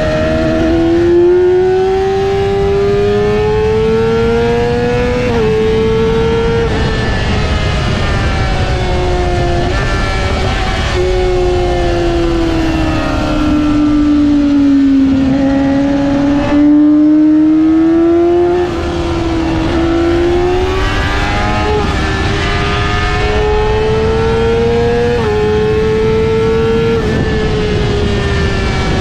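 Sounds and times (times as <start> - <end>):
heavy wind rush: 0.0 - 29.0
motorcycle engine running hard: 0.0 - 29.0.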